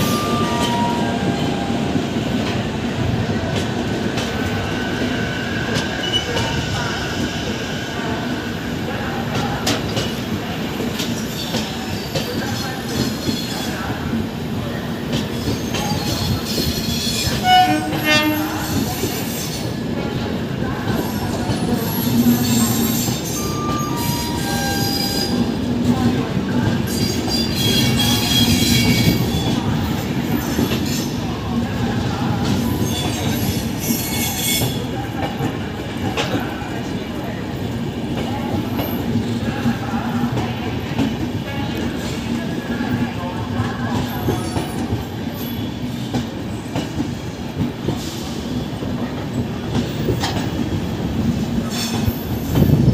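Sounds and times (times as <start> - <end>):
wheels rumbling on rail: 0.0 - 52.9.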